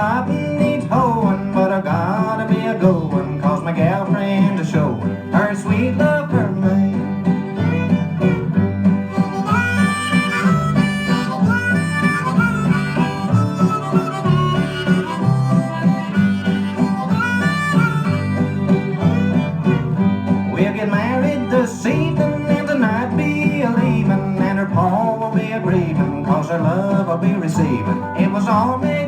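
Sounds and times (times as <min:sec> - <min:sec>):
harmonica melody: 0:00.0 - 0:29.0
steady bass: 0:00.0 - 0:29.0
strummed guitar: 0:00.0 - 0:29.0.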